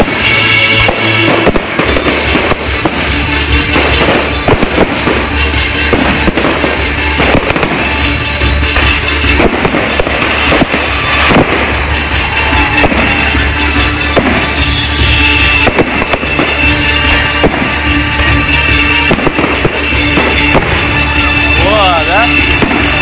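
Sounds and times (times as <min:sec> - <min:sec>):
fireworks bangs and crackles: 0:00.0 - 0:23.0
music playing: 0:00.0 - 0:23.0.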